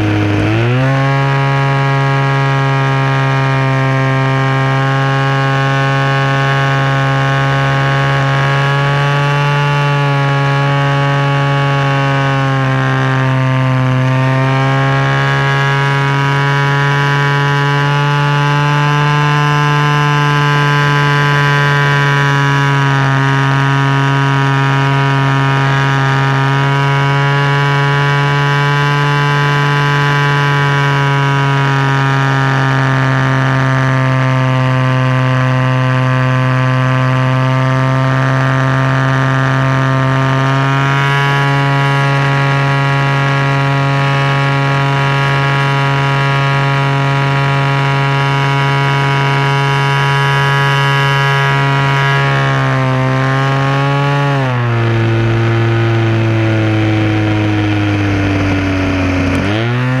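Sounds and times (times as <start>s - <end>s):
model plane engine in flight: 0.0s - 60.0s.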